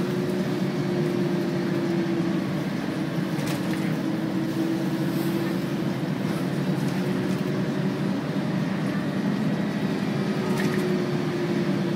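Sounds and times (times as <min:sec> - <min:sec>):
bus engine drone: 0:00.0 - 0:11.9
constant hum: 0:00.0 - 0:11.9.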